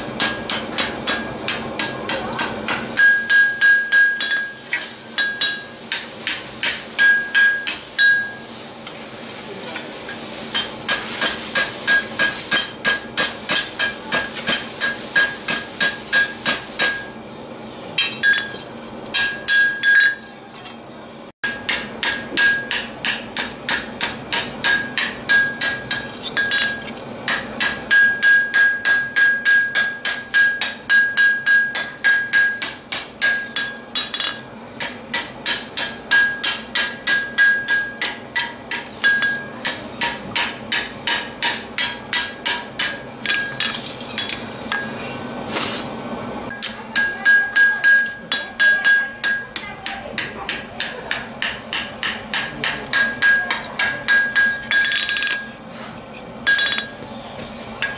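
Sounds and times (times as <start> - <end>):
hammer beating steel on anvil: 0.0 - 8.4, 10.5 - 17.1, 18.0 - 20.3, 21.4 - 45.0, 46.5 - 55.6, 56.4 - 57.1.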